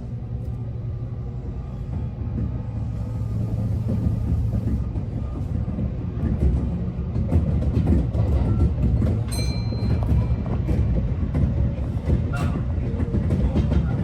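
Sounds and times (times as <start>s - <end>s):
electric train rolling past: 0.0s - 14.0s.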